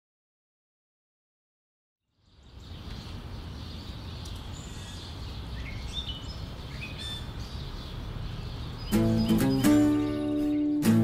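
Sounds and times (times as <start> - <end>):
bird chirps: 2.1 - 11.0.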